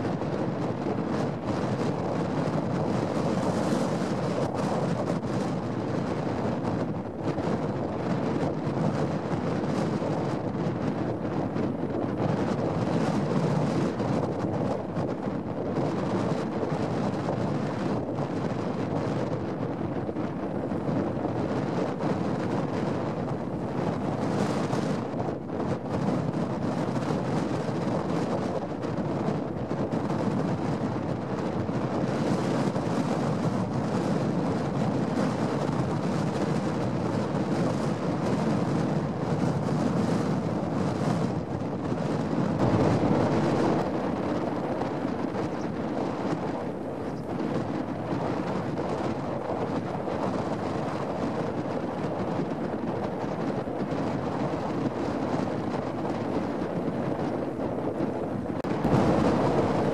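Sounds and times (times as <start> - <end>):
gusty wind buffeting microphone: 0.0 - 59.9.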